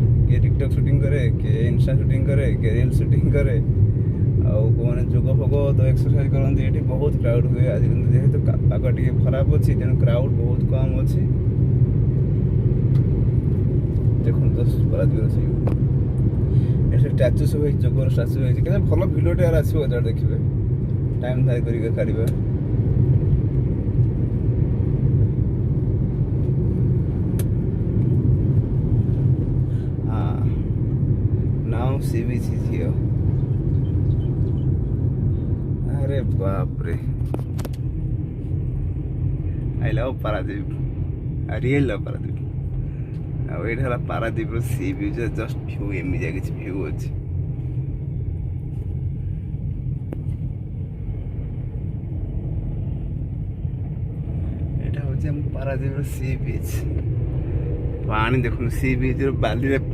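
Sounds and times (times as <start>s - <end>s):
vehicle rumbling in motion: 0.0s - 59.9s.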